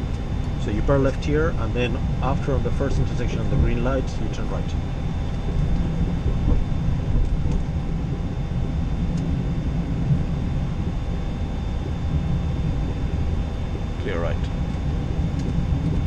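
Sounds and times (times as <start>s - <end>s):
aircraft cockpit low rumble: 0.0s - 16.0s
faint high-pitched whine: 0.0s - 16.0s.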